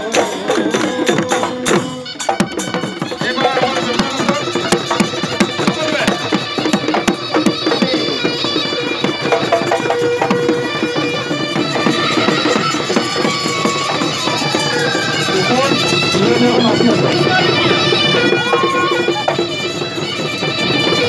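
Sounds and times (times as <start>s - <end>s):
drums beaten in fast rhythm: 0.0s - 21.0s
reedy horn pipe melody: 0.0s - 21.0s.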